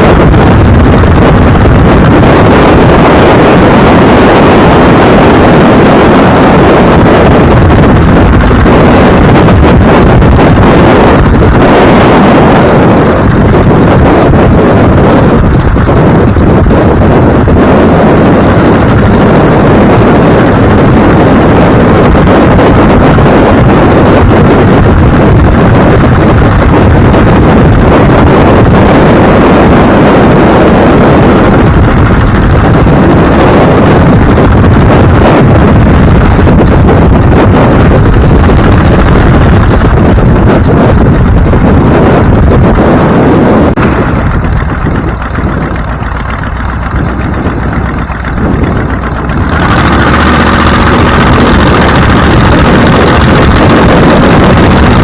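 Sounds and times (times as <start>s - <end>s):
vehicle road and engine noise: 0.0s - 55.0s
wind buffeting microphone: 0.0s - 55.0s.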